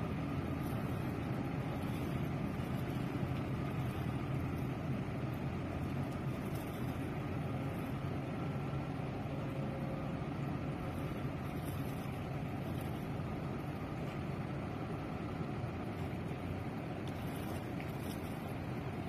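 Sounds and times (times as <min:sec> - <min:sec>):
boat engine drone: 0:00.0 - 0:19.0.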